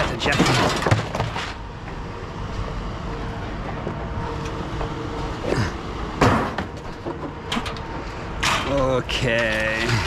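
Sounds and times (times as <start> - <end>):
engine low rumble: 0.0 - 10.0.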